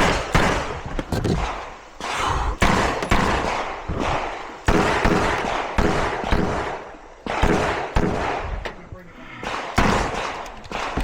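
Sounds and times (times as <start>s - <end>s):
pistol shots with echo: 0.0s - 0.8s, 1.4s - 8.6s, 9.4s - 11.0s.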